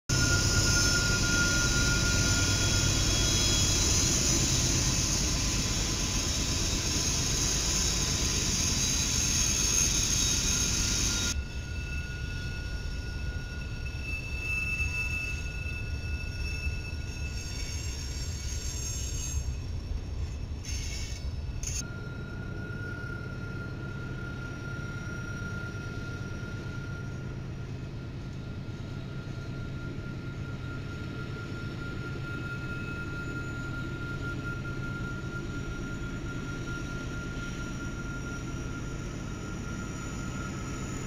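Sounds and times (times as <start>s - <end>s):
train rumble: 0.1s - 41.0s
wheel flange squeal: 0.1s - 41.0s.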